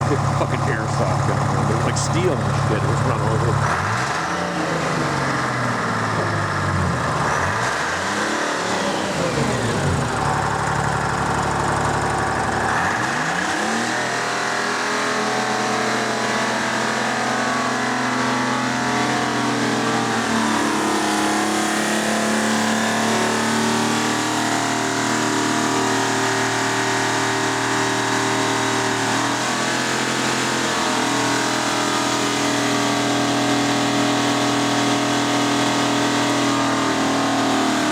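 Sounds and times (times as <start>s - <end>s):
diesel engine revving: 0.0s - 37.9s.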